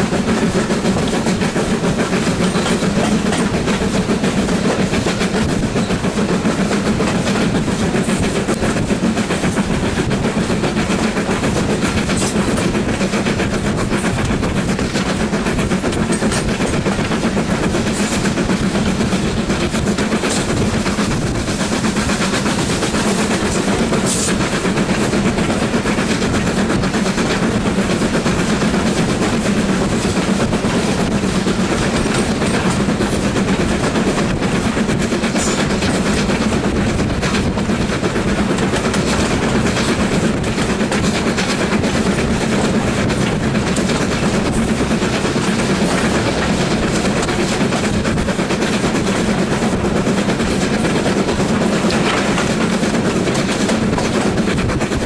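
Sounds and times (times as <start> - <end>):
carriages clattering on rails: 0.0 - 55.0
steam locomotive exhaust beating: 0.0 - 55.0.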